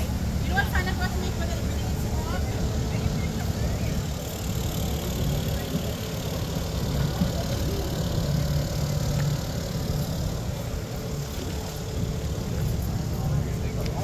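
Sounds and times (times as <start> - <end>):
low crowd rumble: 0.0 - 14.0
people talking nearby: 0.0 - 14.0.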